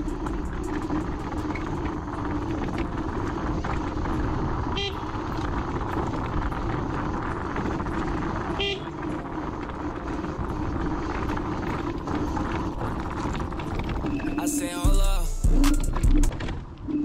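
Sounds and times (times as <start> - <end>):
wind rushing over microphone: 0.0 - 14.4
electric scooter hum: 0.0 - 17.0.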